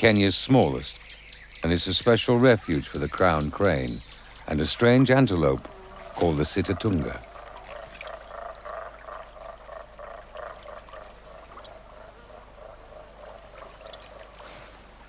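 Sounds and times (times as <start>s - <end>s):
frogs croaking: 0.0s - 15.0s.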